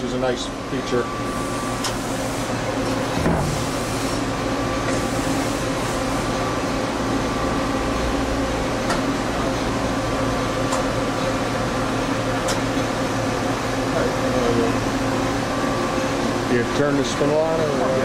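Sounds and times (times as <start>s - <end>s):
machine hum with constant whine: 0.0s - 18.0s.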